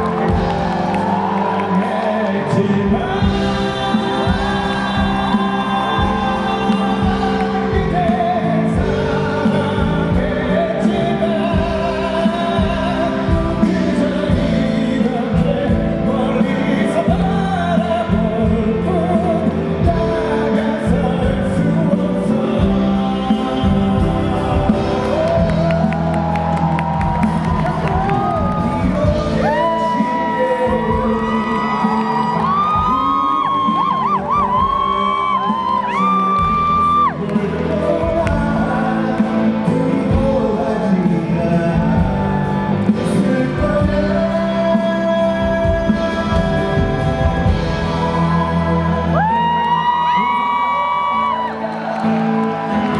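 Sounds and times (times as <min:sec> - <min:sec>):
person singing with vibrato: 0:00.0 - 0:52.8.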